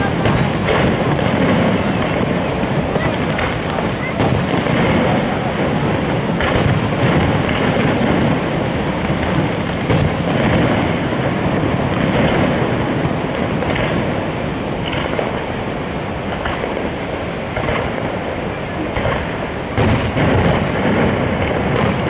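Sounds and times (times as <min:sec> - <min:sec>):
firework shells bursting: 0:00.0 - 0:22.0.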